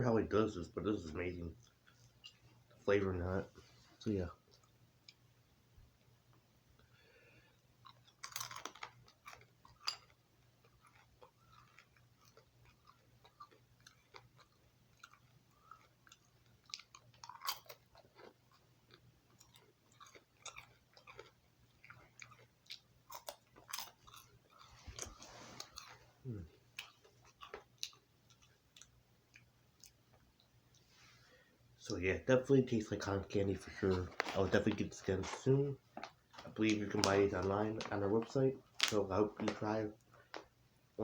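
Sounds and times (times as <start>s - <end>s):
person chewing popcorn: 1.5s - 2.8s, 4.4s - 5.3s, 6.8s - 30.9s, 33.0s - 40.6s.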